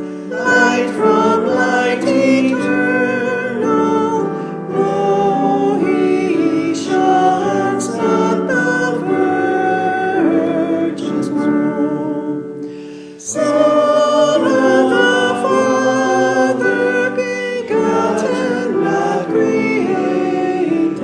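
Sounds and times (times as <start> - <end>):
congregation singing a hymn: 0.0 - 21.0.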